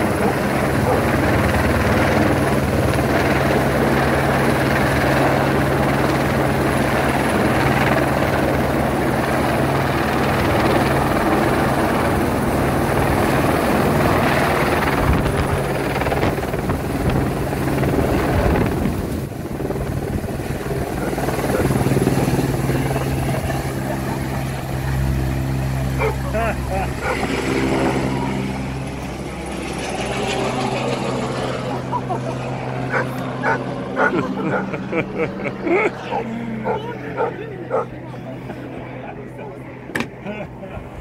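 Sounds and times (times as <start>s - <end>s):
helicopter rotor drone: 0.0s - 41.0s.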